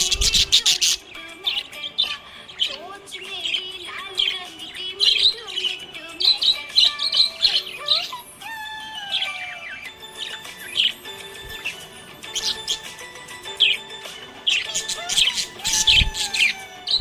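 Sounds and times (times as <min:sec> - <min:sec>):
budgerigar chirping: 0:00.0 - 0:17.0.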